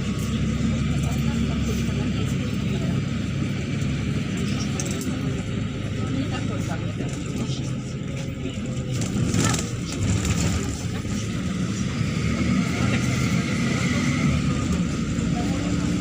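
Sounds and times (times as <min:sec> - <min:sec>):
bus engine drone inside bus: 0:00.0 - 0:16.0.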